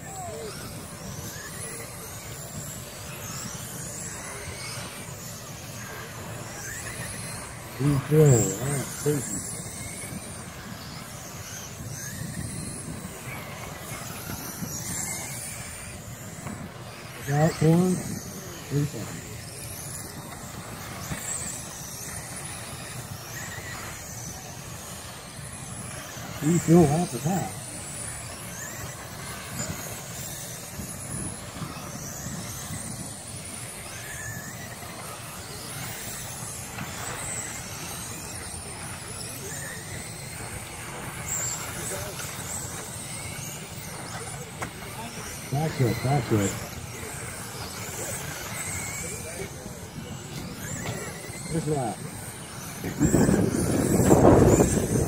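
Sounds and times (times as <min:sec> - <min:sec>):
high-pitched car whines: 0:00.0 - 0:55.0.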